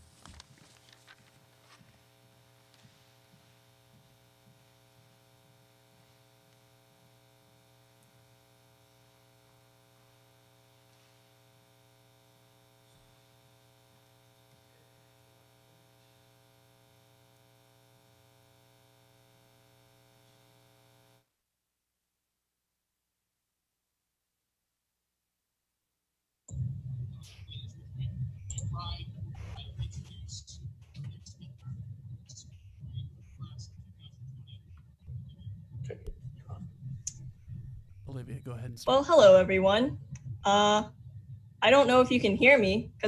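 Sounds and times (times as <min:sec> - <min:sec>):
faint electrical hum: 0:00.0 - 0:21.2, 0:26.5 - 0:43.0.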